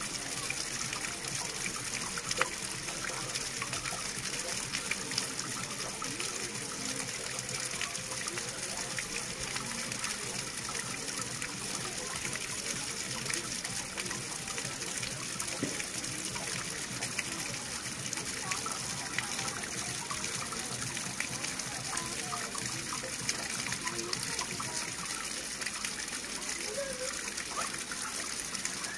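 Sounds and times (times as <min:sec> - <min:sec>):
running water gushing: 0:00.0 - 0:28.9.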